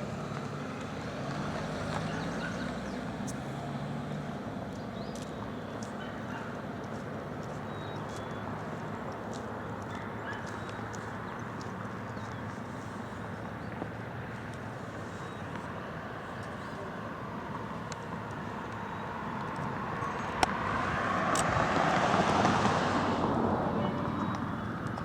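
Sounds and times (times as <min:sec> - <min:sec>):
car passing: 0:00.0 - 0:05.3, 0:06.0 - 0:25.0.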